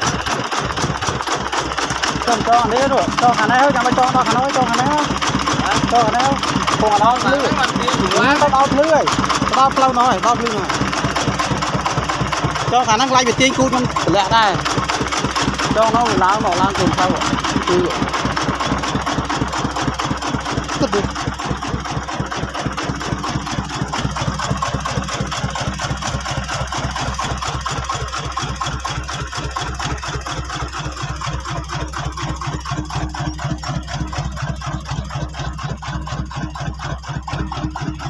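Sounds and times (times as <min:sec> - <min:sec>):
truck engine running steadily: 0:00.0 - 0:38.0.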